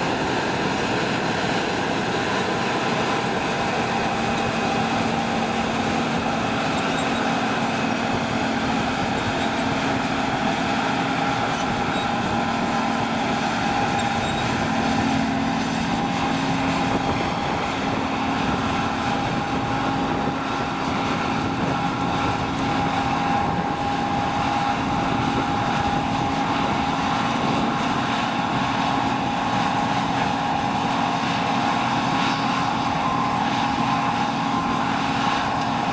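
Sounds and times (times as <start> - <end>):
combine harvester running: 0.0 - 35.9.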